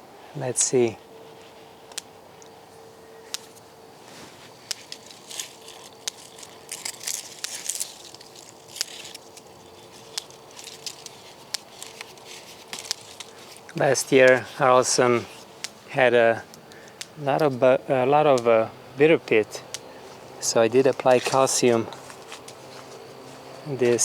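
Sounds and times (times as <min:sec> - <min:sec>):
faint steady hum: 0:00.0 - 0:24.0
leaves and twigs rustling: 0:00.0 - 0:24.0.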